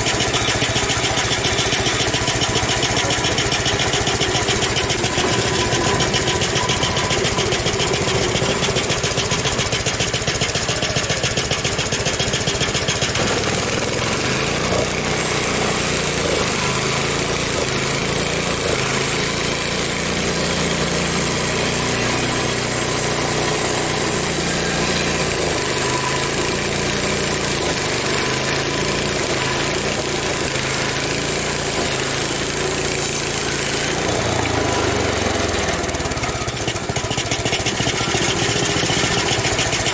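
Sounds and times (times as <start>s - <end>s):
band saw cutting log: 0.0s - 39.9s
gasoline engine running: 0.0s - 39.9s.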